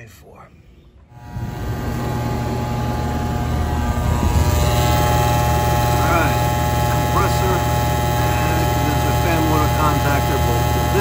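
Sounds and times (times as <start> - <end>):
heat pump humming: 0.9 - 11.0.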